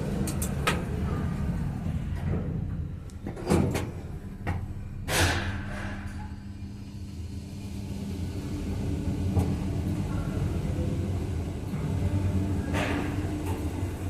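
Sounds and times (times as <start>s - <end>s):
lift humming: 0.0s - 14.0s.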